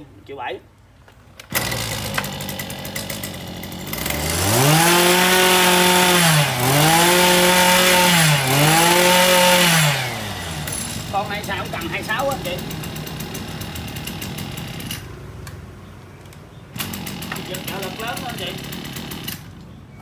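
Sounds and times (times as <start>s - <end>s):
brush cutter engine revving: 1.4s - 15.1s, 16.7s - 19.7s.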